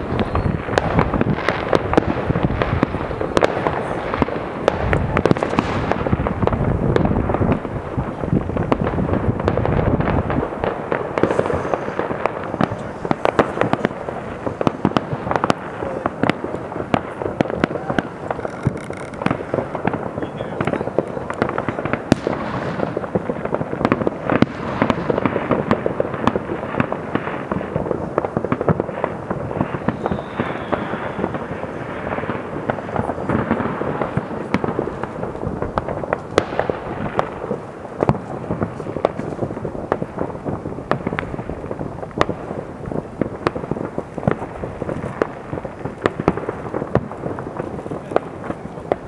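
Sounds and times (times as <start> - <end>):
distant fireworks crackling: 0.0 - 49.0
firework bangs: 0.0 - 49.0.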